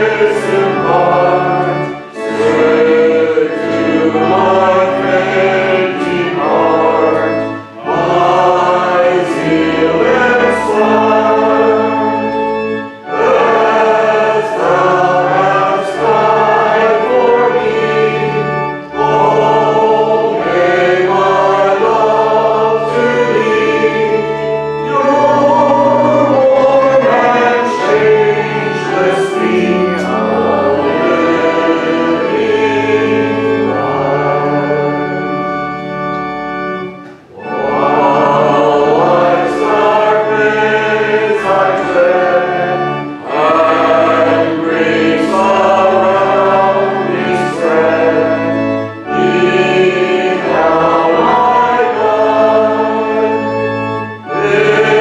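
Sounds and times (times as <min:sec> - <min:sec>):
choir singing a hymn: 0:00.0 - 0:55.0
organ: 0:00.0 - 0:55.0.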